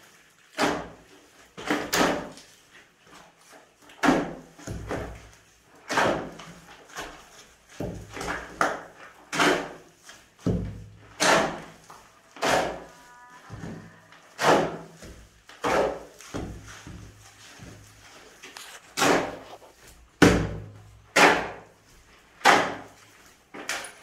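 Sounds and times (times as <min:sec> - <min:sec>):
shovel scraping and chopping mortar: 0:00.4 - 0:12.9, 0:13.5 - 0:24.0.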